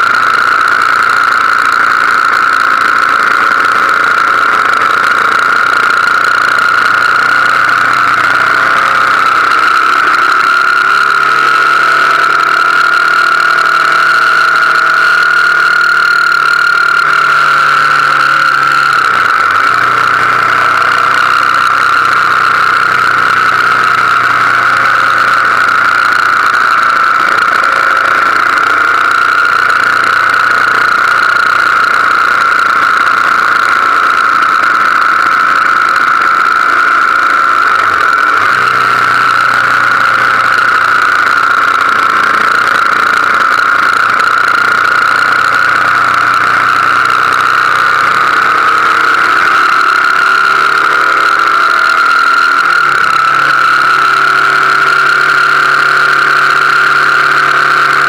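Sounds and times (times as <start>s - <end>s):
high drone: 0.0s - 58.0s
motorcycle engine running: 0.0s - 58.0s.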